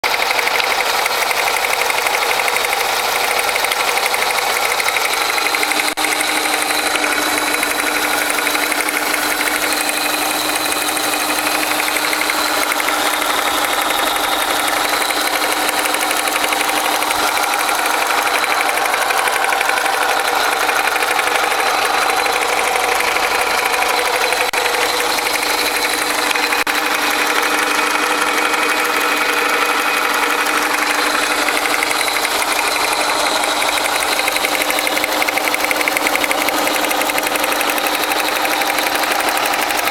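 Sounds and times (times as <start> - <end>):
car engine idling: 0.0 - 39.9
rapid engine knock: 0.0 - 39.9.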